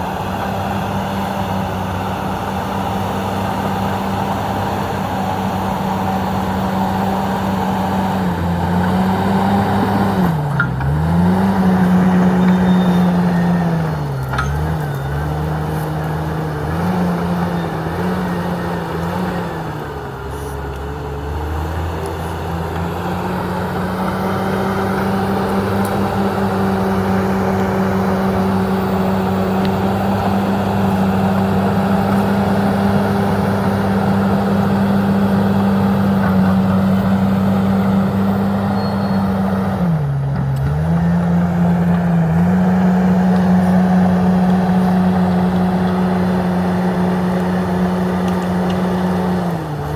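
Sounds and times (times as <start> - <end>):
bulldozer diesel engine running hard: 0.0 - 49.9.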